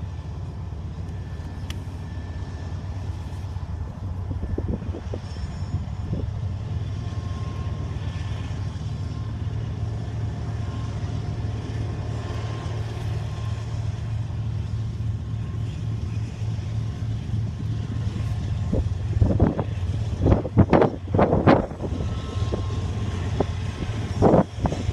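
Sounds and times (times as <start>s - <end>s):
freight train rumbling past: 0.0s - 24.9s.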